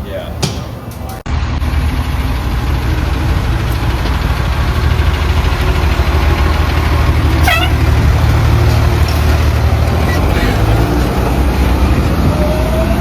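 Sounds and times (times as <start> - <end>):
fire engine driving on road: 0.0 - 13.0.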